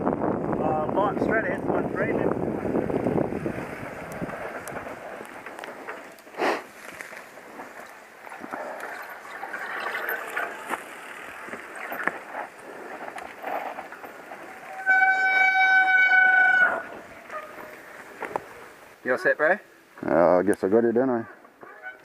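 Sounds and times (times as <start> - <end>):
wind noise: 0.0 - 18.7
bike rattling: 0.0 - 18.9
bike tyres rumbling on dirt: 0.0 - 18.9.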